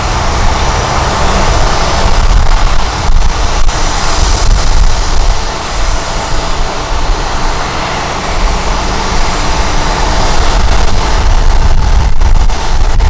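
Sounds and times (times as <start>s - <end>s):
jet engines whining: 0.0s - 13.0s
wind buffeting microphone: 0.0s - 13.0s.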